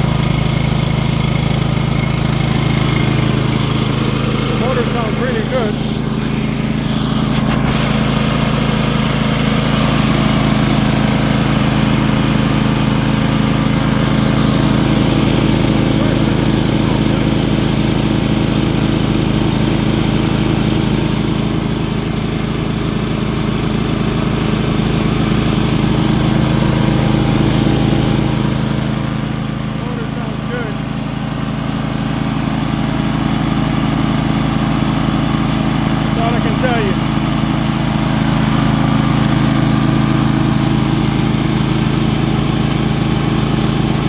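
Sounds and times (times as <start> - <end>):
air compressor engine running: 0.0 - 44.0.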